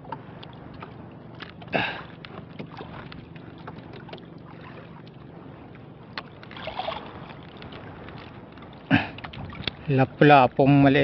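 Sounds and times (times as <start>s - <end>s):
water noise around boat: 0.0s - 11.0s
wind: 0.0s - 11.0s.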